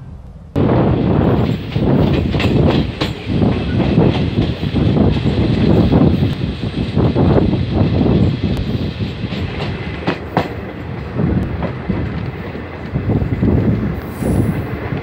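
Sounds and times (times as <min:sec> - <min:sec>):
train wheels clattering over joints: 0:00.9 - 0:15.0.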